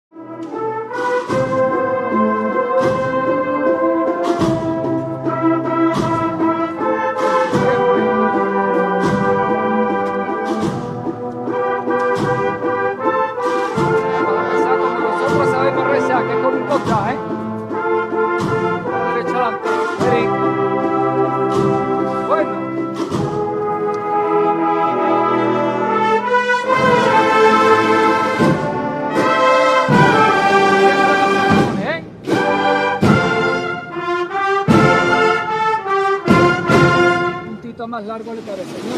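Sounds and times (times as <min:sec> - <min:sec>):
brass band playing a tune: 0:00.1 - 0:38.9
steady beat: 0:00.2 - 0:38.6.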